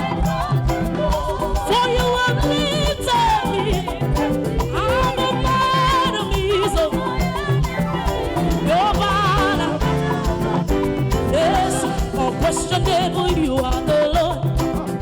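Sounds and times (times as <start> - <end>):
upbeat worship band music: 0.0 - 15.0.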